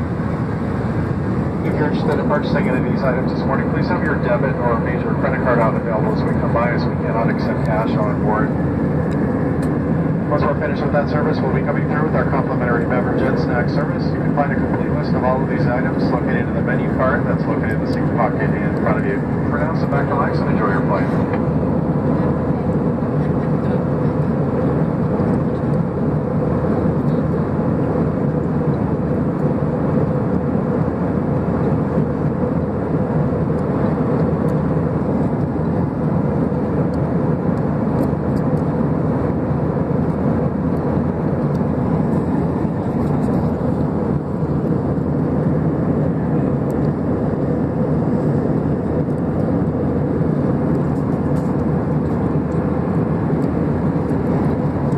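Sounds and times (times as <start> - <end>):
jet engines roaring in cabin: 0.0 - 54.9
steady hum: 0.0 - 54.9.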